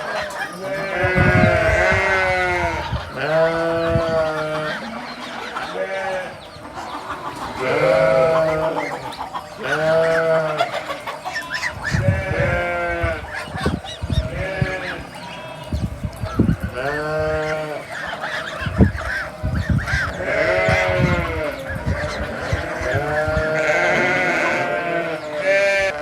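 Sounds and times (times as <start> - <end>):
sheep bleating: 0.0 - 6.5, 7.5 - 26.0.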